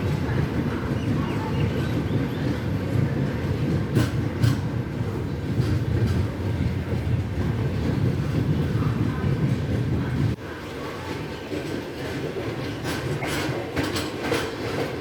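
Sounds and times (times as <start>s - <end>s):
train coaches rumbling on track: 0.0s - 15.0s.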